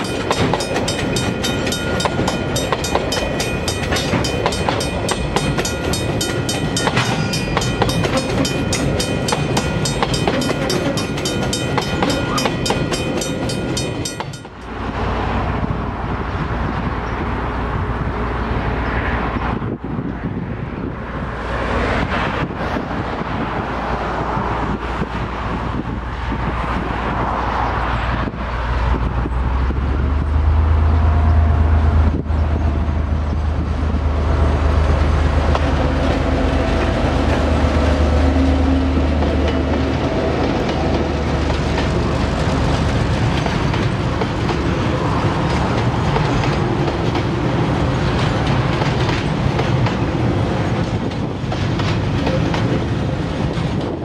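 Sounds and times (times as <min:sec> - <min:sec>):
freight wagons rumbling: 0:00.0 - 0:17.6, 0:28.2 - 0:54.0
diesel locomotive engine drone: 0:00.0 - 0:54.0
wheels clickety-clack on rails: 0:00.0 - 0:54.0.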